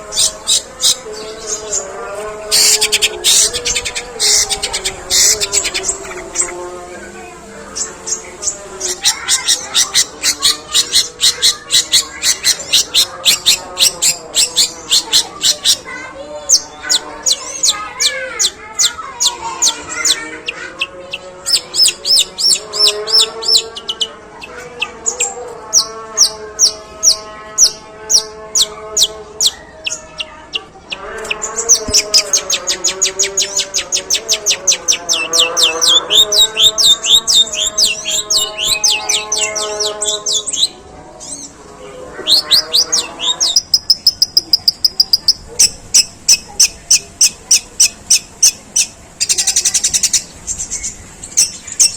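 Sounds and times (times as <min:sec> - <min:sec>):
bird singing high chirps: 0:07.8 - 0:15.9, 0:16.5 - 0:41.6, 0:42.2 - 0:51.9.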